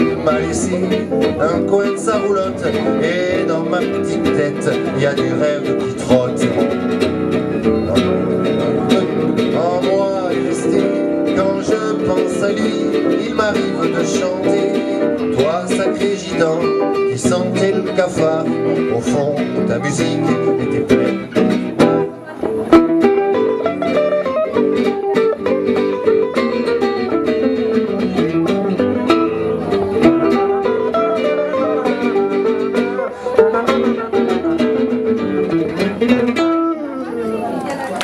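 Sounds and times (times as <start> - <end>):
acoustic guitar strummed chords: 0.0 - 38.0
electric guitar picked melody: 0.0 - 38.0.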